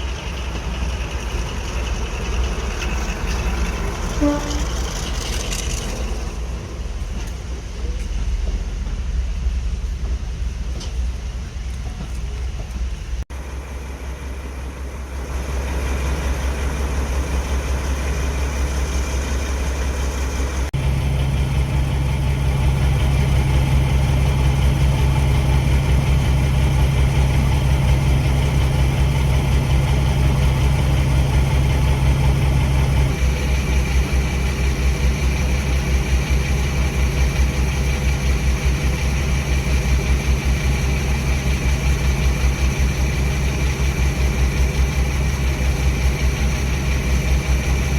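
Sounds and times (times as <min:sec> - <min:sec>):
diesel locomotive engine drone: 0:00.0 - 0:47.9.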